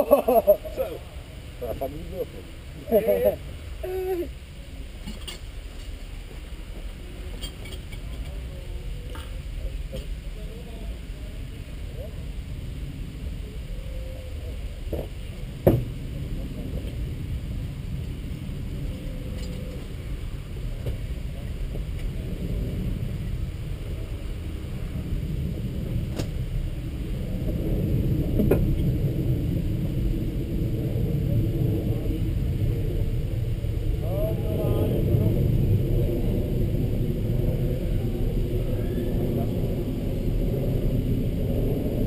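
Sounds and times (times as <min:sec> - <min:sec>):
low rumble: 0:00.0 - 0:42.0.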